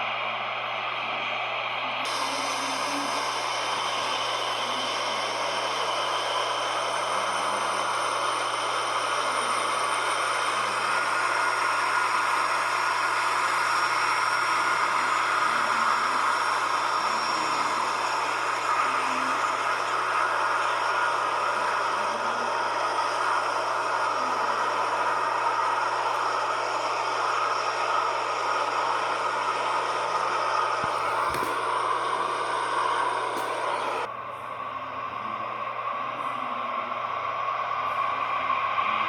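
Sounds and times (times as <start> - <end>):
jet engines roaring and whining: 0.0 - 39.0.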